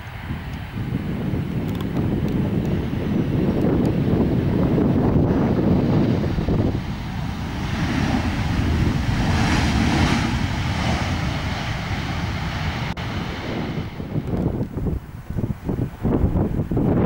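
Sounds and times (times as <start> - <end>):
jet engines rushing: 0.0 - 17.0
wind buffeting microphone: 0.0 - 17.0.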